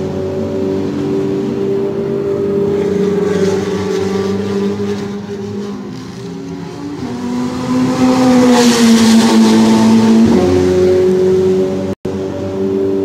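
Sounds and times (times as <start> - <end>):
distant race car engines: 0.0 - 13.0
race car passing at speed: 0.0 - 13.0.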